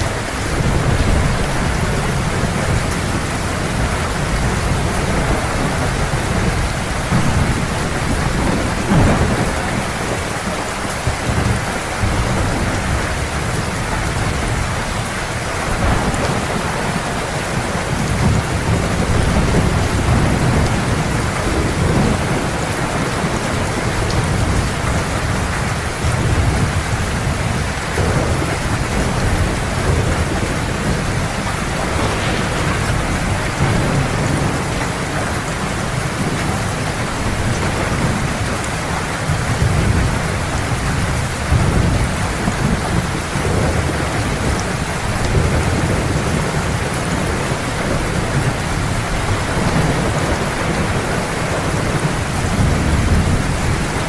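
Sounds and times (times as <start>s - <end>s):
heavy rain: 0.0s - 54.0s
thunder rumbling: 0.0s - 54.0s.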